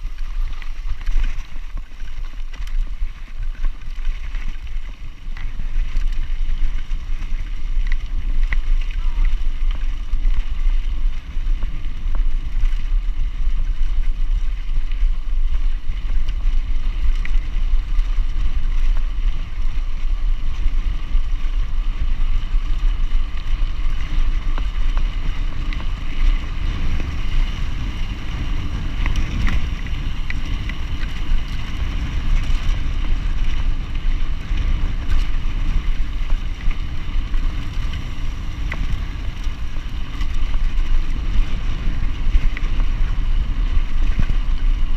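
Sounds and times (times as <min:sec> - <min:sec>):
bike clicks and rattles: 0:00.0 - 0:44.9
bike tyres rolling on gravel: 0:00.0 - 0:44.9
wind buffeting microphone: 0:00.0 - 0:44.9.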